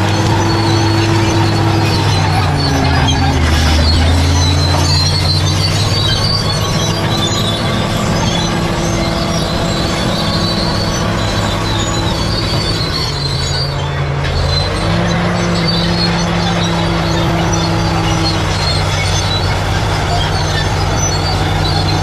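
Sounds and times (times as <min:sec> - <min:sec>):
bulldozer diesel engine: 0:00.0 - 0:22.0
steel tracks squealing: 0:00.0 - 0:22.0.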